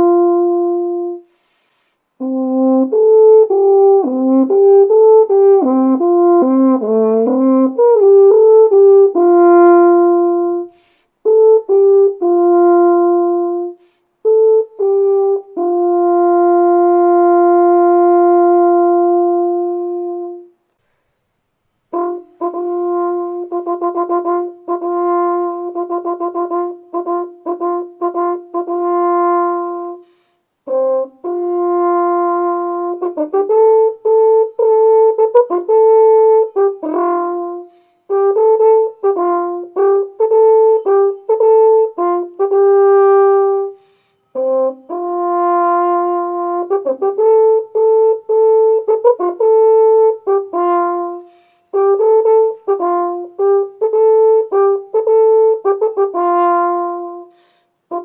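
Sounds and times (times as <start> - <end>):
wooden horn playing a tune: 0.0 - 21.0, 21.8 - 58.0.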